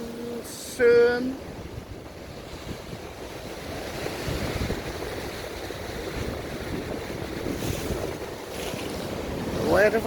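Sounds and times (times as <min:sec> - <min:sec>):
sea waves washing against rocks: 0:00.0 - 0:10.0
wind buffeting microphone: 0:00.0 - 0:10.0.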